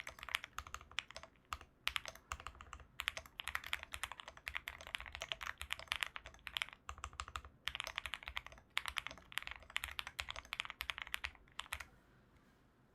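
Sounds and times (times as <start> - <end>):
mechanical keyboard typing: 0.0 - 11.9.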